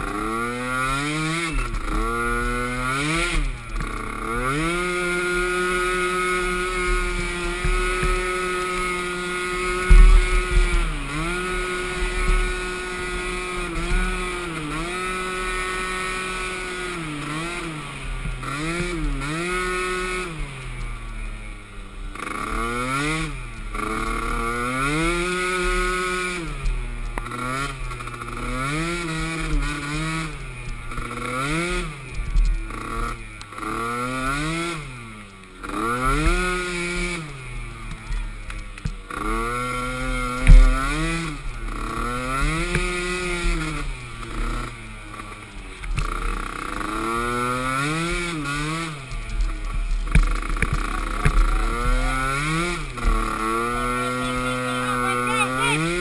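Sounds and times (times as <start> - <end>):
atv engine racing: 0.0 - 56.0.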